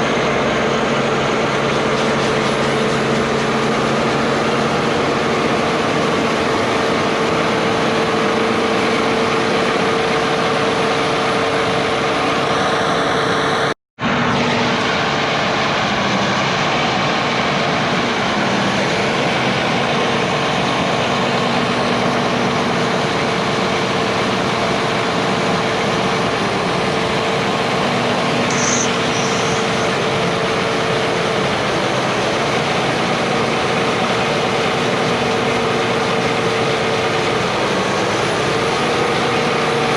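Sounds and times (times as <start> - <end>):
harvest machinery droning: 0.0 - 39.9.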